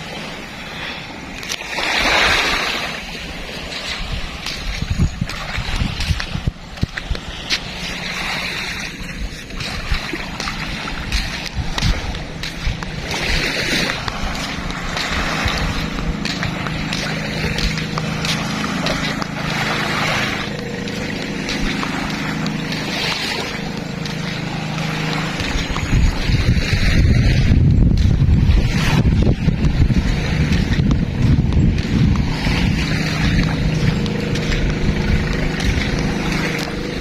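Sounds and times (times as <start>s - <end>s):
engine drone: 0.0s - 37.0s
waves splashing at shore: 0.0s - 37.0s.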